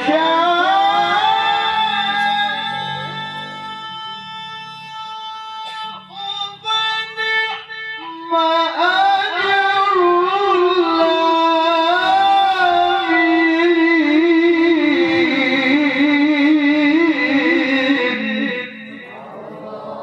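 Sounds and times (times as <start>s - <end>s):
man reciting in melismatic chant: 0.0s - 20.0s.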